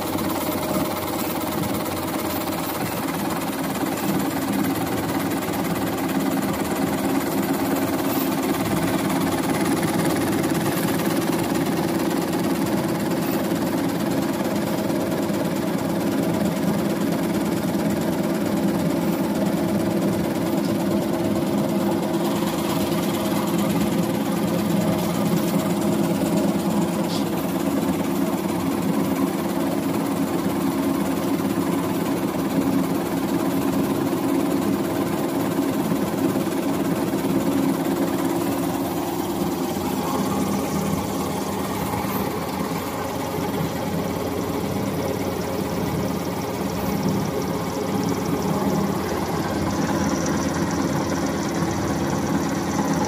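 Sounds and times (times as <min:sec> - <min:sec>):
machine humming and whirring: 0:00.0 - 0:53.0.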